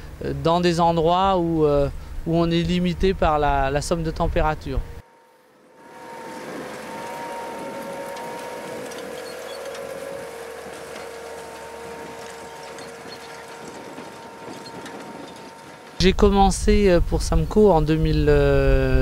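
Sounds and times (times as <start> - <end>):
machinery whine: 0.0 - 19.0
tractor running: 0.0 - 19.0.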